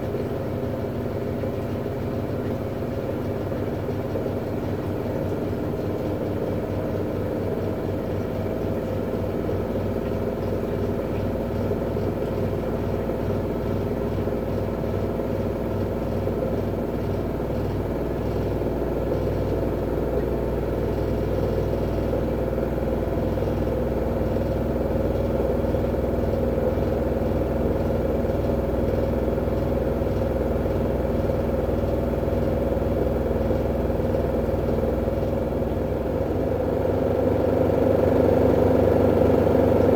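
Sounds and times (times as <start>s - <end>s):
washing machine drum spinning: 0.0s - 39.9s.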